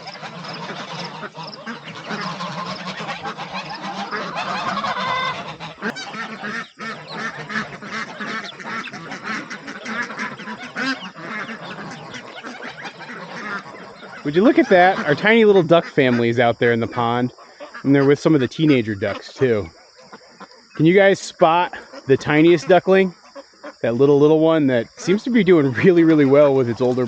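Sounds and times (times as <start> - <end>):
ducks quacking: 0.0 - 27.0
geese honking: 0.0 - 27.0.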